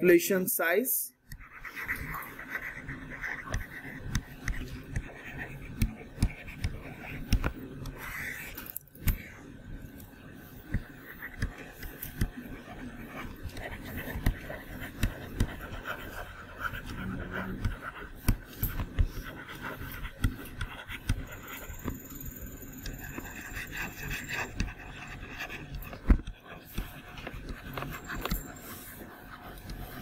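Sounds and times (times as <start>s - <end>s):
stylus tapping on tablet screen: 1.2s - 9.4s, 10.0s - 30.0s.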